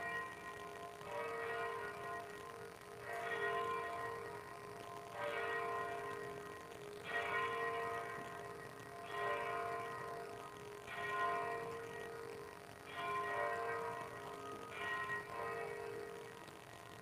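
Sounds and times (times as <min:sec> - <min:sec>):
church bell tolling: 0:00.0 - 0:16.4.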